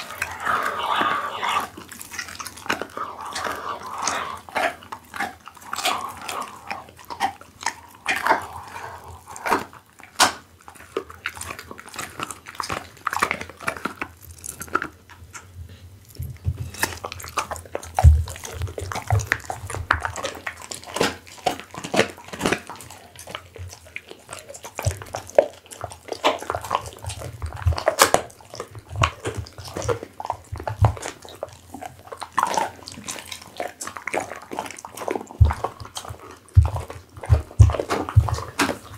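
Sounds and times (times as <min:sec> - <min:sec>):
dog chewing meat: 0:00.0 - 0:38.9.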